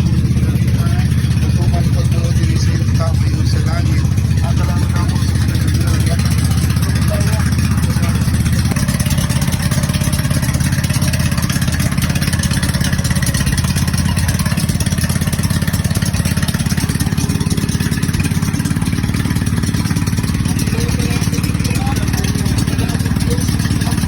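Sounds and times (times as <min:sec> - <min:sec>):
boat engine chugging: 0:00.0 - 0:24.0.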